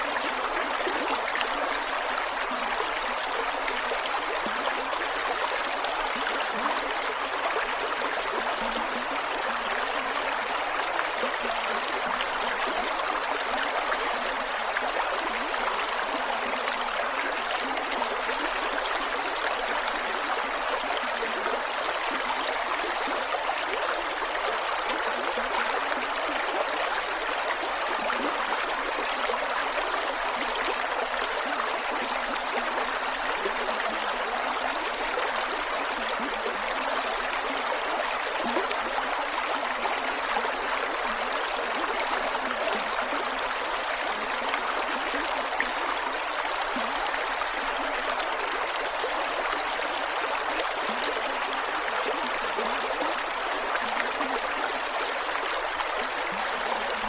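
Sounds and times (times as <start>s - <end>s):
creek water gurgling over rocks: 0.0s - 57.0s.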